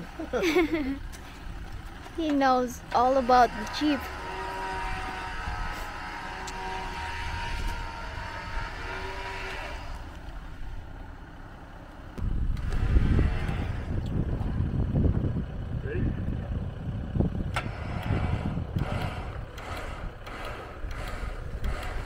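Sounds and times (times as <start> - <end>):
car engine idling: 0.0 - 22.0
wind buffeting microphone: 2.6 - 10.9, 12.2 - 22.0.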